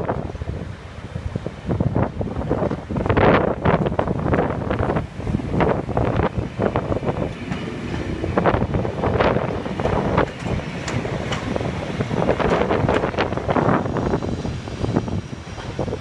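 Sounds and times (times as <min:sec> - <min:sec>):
train rumble: 0:00.0 - 0:16.0
wind buffeting microphone: 0:00.0 - 0:16.0
wheels clattering over rail joints: 0:02.5 - 0:16.0.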